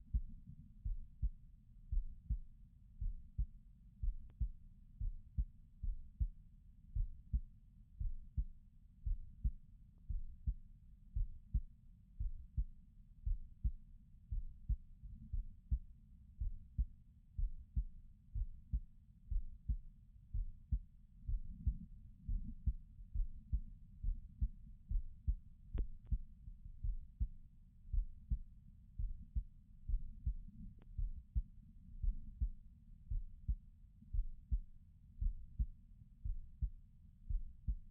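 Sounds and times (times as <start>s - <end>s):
heartbeat thuds: 0.0s - 6.4s, 7.0s - 10.6s, 11.2s - 15.8s, 16.4s - 37.9s.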